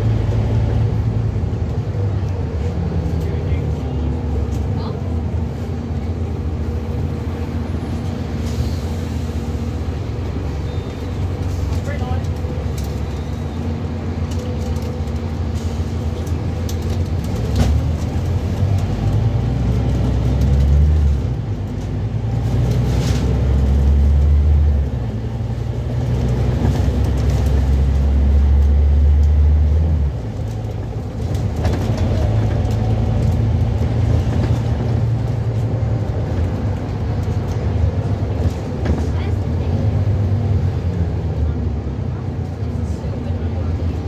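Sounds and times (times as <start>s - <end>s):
bus diesel engine droning: 0.0s - 44.0s.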